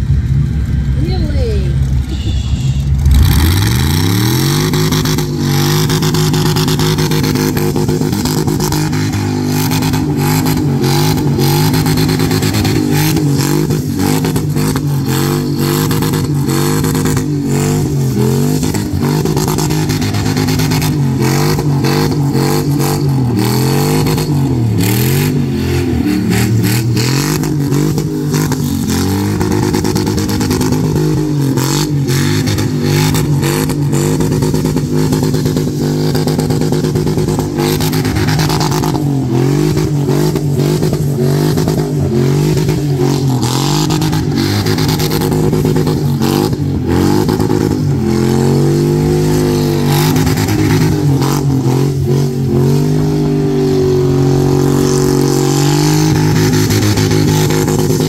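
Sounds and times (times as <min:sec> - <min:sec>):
spinning tyres hissing: 0:01.8 - 0:58.0
car engine revving hard: 0:01.9 - 0:58.0.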